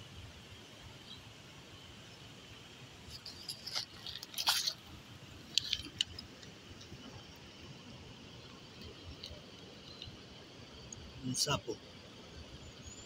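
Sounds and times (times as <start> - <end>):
faint insect drone: 0.0 - 13.0.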